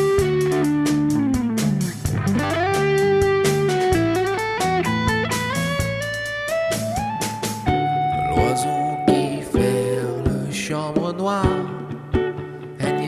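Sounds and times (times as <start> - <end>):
steady drum beat: 0.0 - 12.4
bass guitar: 0.0 - 13.0
electric guitar bending notes: 0.0 - 13.0.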